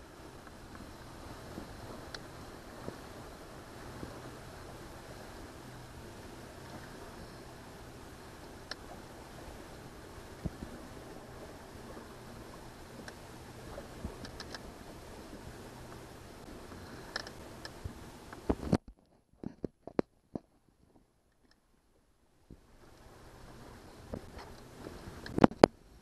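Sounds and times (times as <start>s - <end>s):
outboard engine and water rush: 0.0s - 26.0s.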